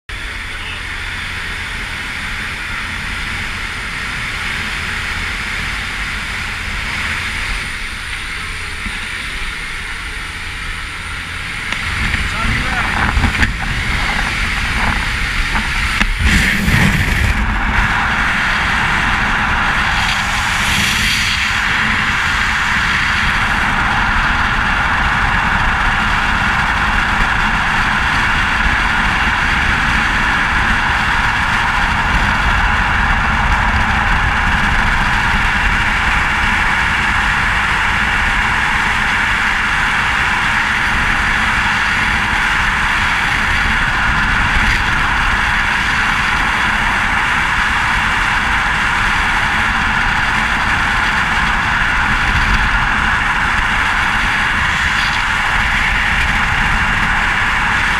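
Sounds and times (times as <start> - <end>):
wind rushing over microphone: 0.1 - 57.9.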